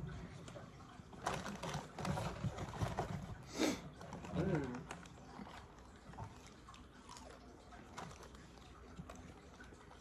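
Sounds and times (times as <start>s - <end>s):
faint chewing: 0.1s - 10.0s.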